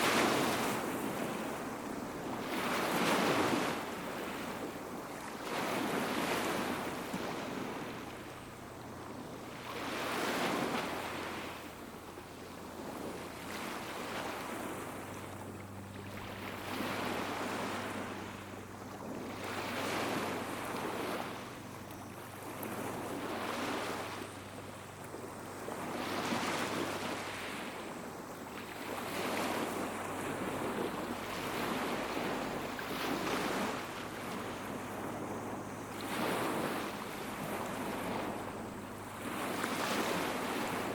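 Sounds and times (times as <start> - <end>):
small waves washing ashore: 0.0 - 40.9.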